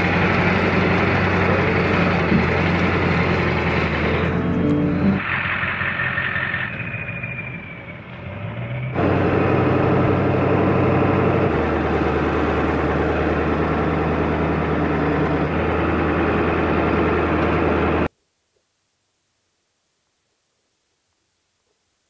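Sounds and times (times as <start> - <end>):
diesel truck engine drone: 0.0 - 18.1
road noise: 0.0 - 18.1.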